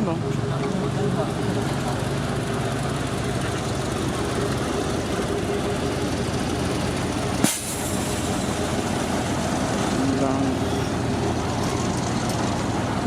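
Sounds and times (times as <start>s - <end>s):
heavy truck diesel engine running: 0.0s - 13.0s.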